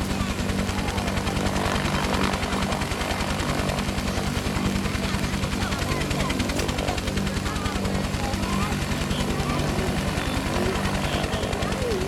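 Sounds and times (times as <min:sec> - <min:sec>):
helicopter engine hum: 0:00.0 - 0:12.0
helicopter rotor beat: 0:00.0 - 0:12.0.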